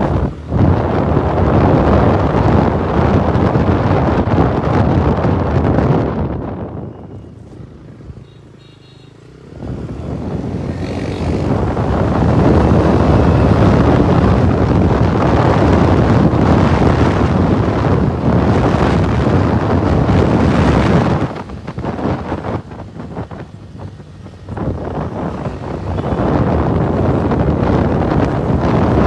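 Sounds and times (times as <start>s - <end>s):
wind rushing over microphone: 0.0s - 8.3s, 9.1s - 29.0s
motorcycle road noise: 0.0s - 29.0s.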